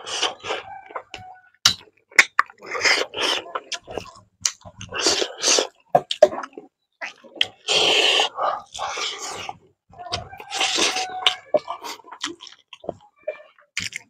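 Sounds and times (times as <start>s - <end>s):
person chewing with mouth smacks: 0.0s - 14.0s.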